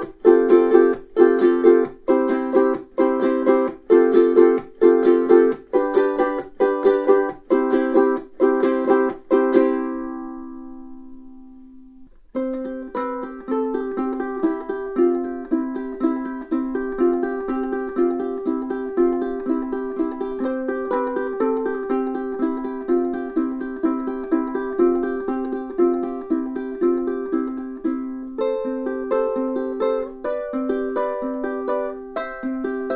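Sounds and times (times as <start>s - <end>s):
ukulele single notes: 0.0s - 32.9s
ukulele strummed chords: 0.0s - 32.9s.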